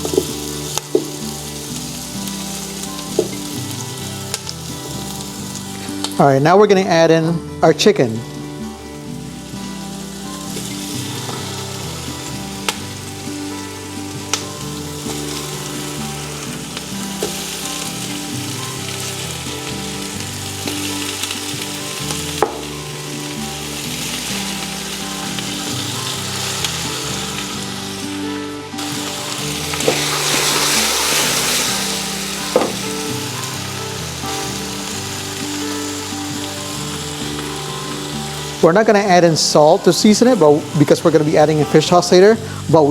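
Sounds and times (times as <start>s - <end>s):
chicken sizzling in oil: 0.0s - 42.9s.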